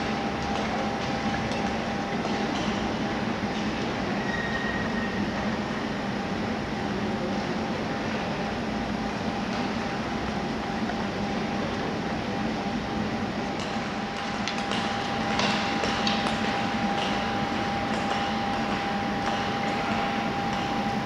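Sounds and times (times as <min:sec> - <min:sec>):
ice rink background hum: 0:00.0 - 0:21.0.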